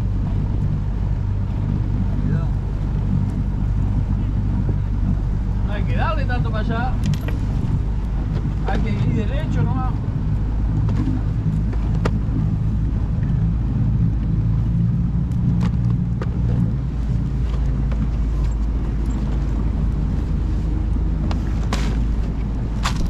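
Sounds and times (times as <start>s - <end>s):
boat motor droning: 0.0s - 23.0s.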